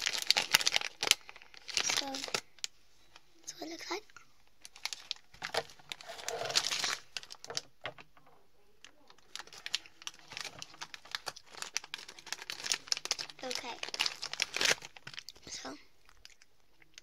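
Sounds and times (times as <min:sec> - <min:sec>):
sweet packaging crinkling: 0:00.0 - 0:17.0.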